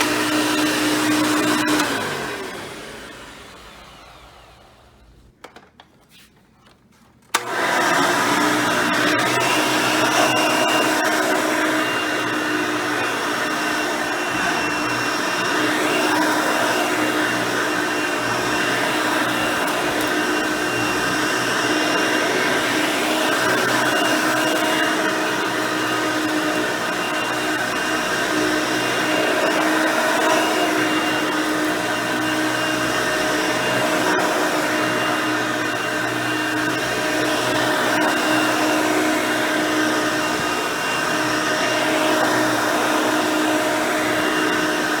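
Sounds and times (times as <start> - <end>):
vacuum cleaner running: 0.0 - 5.4, 7.3 - 45.0.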